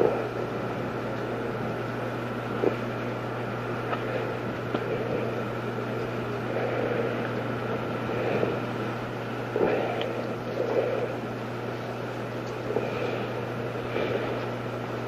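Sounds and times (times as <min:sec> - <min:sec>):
mechanical hum with hiss: 0:00.0 - 0:15.0.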